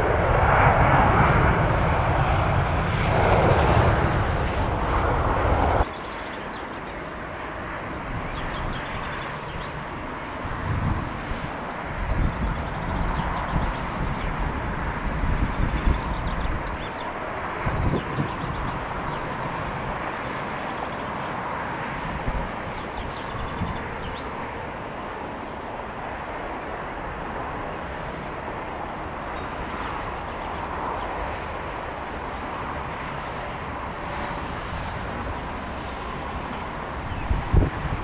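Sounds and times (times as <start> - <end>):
jet airliner engines running: 0.0 - 38.0.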